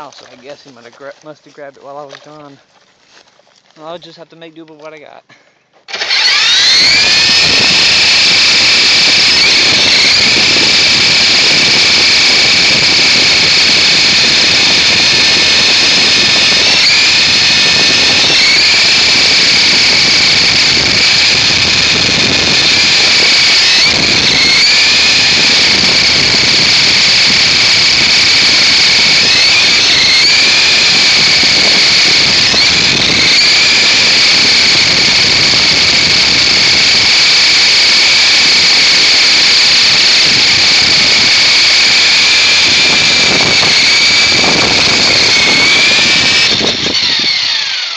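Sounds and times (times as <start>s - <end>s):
toy helicopter motor whining: 5.9s - 47.9s.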